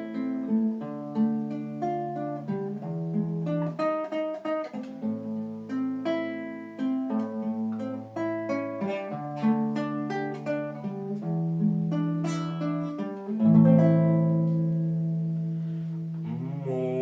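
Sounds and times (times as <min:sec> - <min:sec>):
fingerstyle acoustic guitar: 0:00.0 - 0:17.0.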